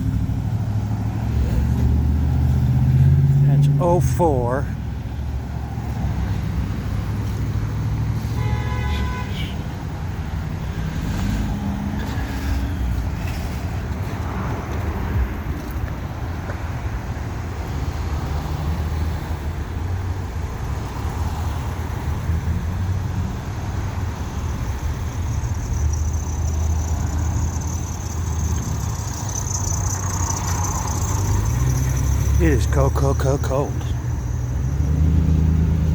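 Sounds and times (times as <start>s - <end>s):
street traffic rumble: 0.0s - 35.9s.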